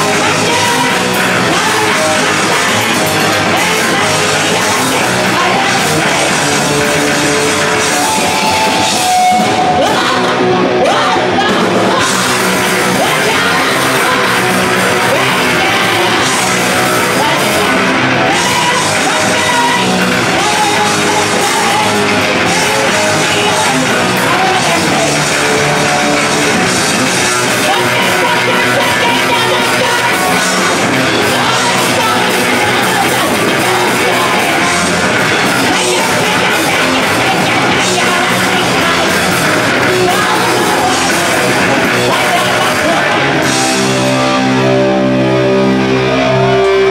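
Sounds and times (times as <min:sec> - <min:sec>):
woman singing and shouting: 0:00.0 - 0:06.6, 0:07.8 - 0:25.4, 0:27.4 - 0:43.3
drum kit: 0:00.0 - 0:46.9
electric guitars: 0:00.0 - 0:46.9.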